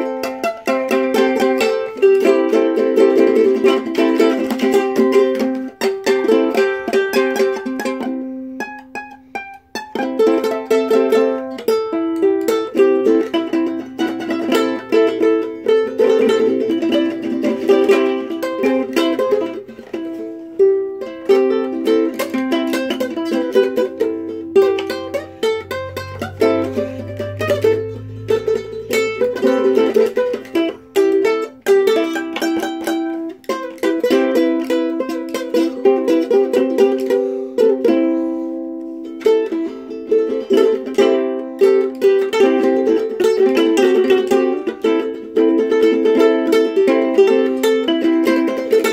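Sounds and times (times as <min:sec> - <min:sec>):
ukulele plucking and strumming: 0:00.0 - 0:48.9.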